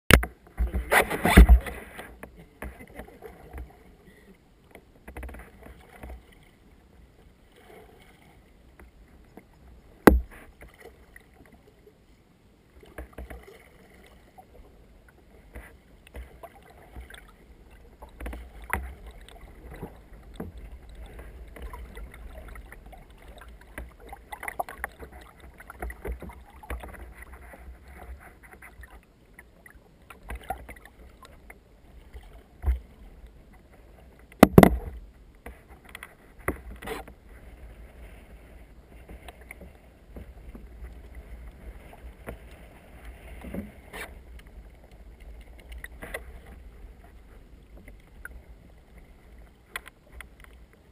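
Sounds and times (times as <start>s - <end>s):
paddle splashing in water: 0.1s - 12.0s, 12.7s - 50.9s.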